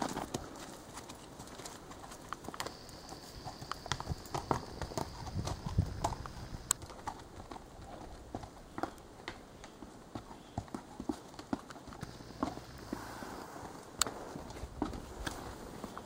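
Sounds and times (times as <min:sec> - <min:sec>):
horse hooves clopping on rocky trail: 0:00.0 - 0:16.0.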